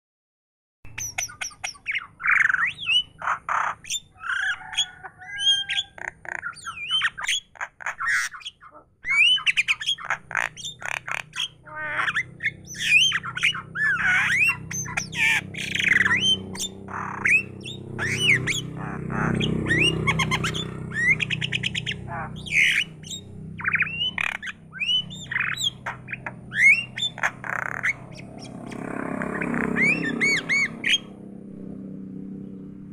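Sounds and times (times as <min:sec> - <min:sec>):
starling chattering: 0:01.0 - 0:31.2.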